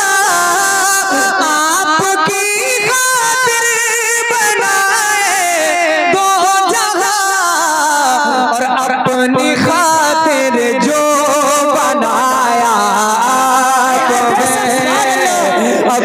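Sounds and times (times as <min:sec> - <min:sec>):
man singing into microphone: 0:00.0 - 0:16.0.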